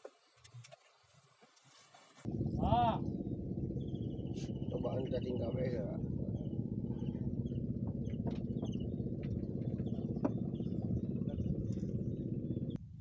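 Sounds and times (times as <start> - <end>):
small engine running: 2.3 - 12.8.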